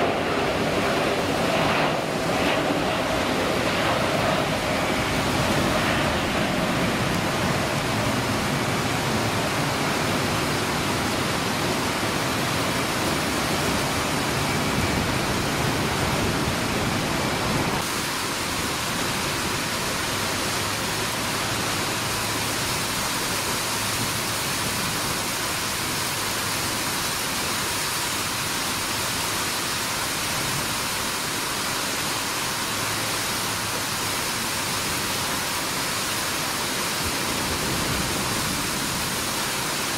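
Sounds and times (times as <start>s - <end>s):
jet airliner roar: 0.0s - 27.8s, 28.4s - 39.9s
rain hiss: 0.0s - 39.9s.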